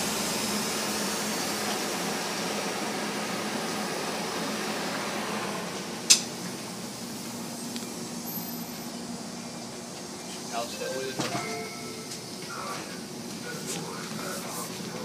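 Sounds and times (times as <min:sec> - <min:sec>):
train car equipment hum and hiss: 0:00.0 - 0:15.0.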